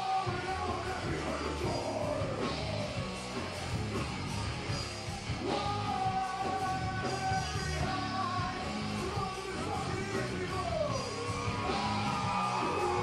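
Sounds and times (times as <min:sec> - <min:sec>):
heavy metal band playing: 0:00.0 - 0:13.0.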